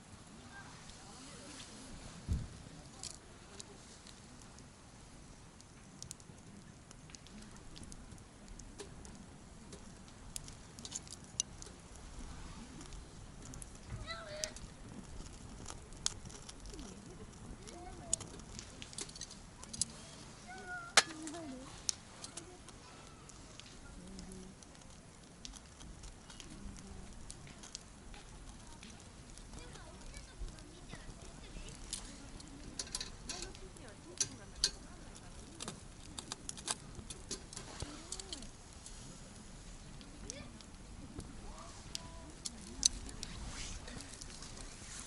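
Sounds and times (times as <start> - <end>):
campfire crackles and pops: 0.0 - 45.0
hiss of burning: 0.0 - 45.0
low rumble of flames: 0.0 - 45.0.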